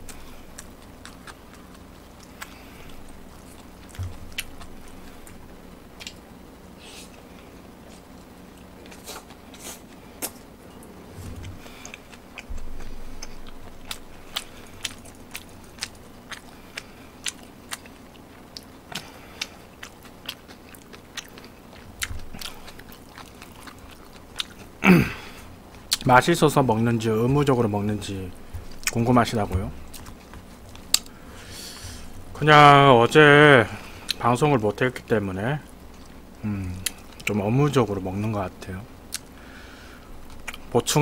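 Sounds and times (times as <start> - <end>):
chewing noodles: 0.0 - 6.2, 7.0 - 32.4, 39.1 - 40.9.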